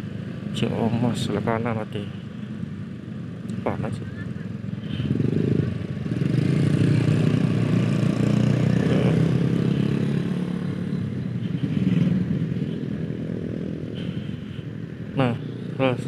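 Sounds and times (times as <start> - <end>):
scooter engines humming: 0.0 - 16.0.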